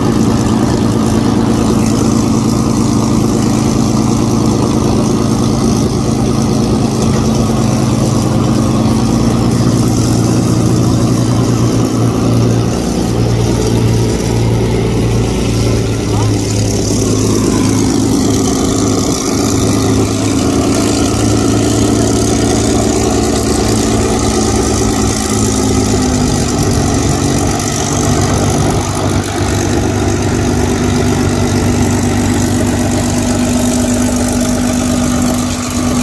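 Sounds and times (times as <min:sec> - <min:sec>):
aircraft engine idling: 0:00.0 - 0:36.0.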